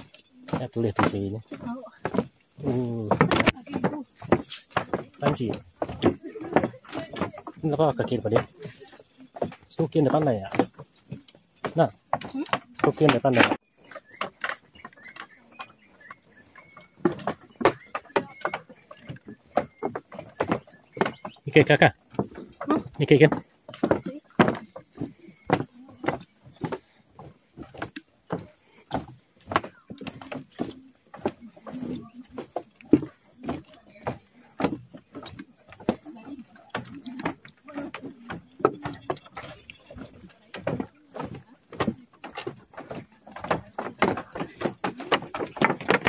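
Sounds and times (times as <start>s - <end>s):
footsteps on wooden boardwalk: 0.0s - 46.0s
insects droning: 0.0s - 46.0s.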